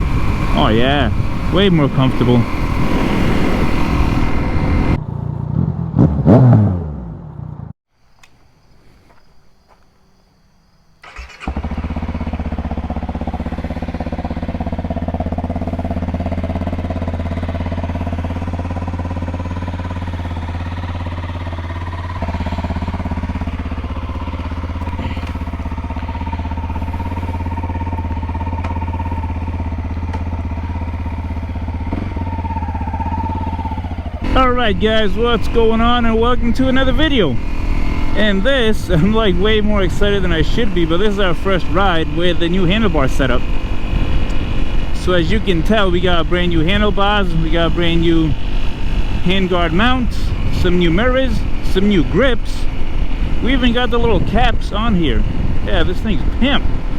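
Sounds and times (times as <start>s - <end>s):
motorcycle engine idling: 0.0s - 5.4s, 11.0s - 56.9s
motorcycle engine revving: 0.0s - 7.8s, 11.0s - 56.9s.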